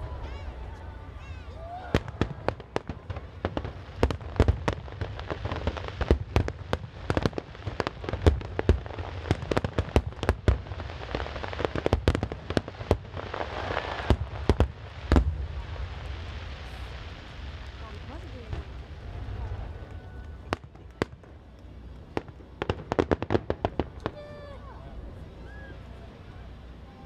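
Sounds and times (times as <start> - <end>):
fireworks bangs: 0.0 - 24.6
fireworks crackling: 0.0 - 27.0.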